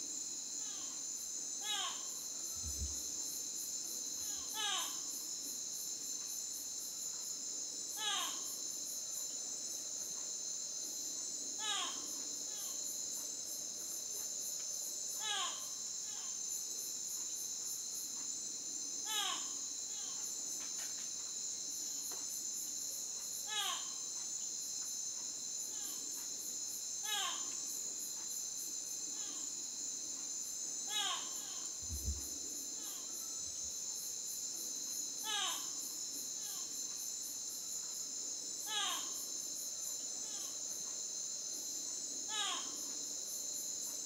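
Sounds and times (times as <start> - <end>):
crickets and insects chirping: 0.0 - 44.0.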